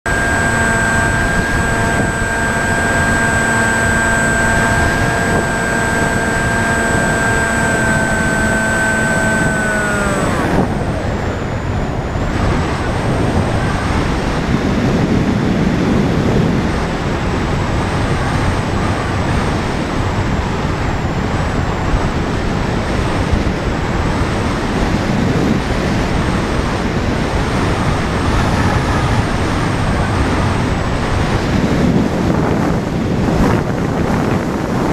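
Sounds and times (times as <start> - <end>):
electric motor and propeller whining: 0.0 - 34.9
wind noise on microphone: 0.0 - 34.9.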